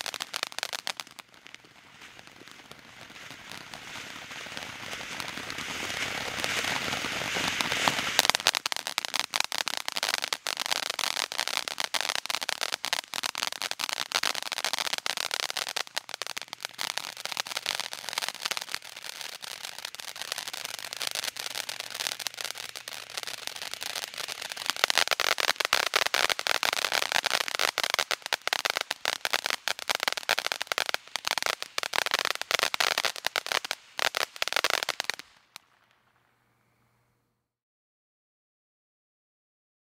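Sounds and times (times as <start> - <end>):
firework fountain hissing: 0.0 - 35.8
firework crackling: 0.0 - 36.8.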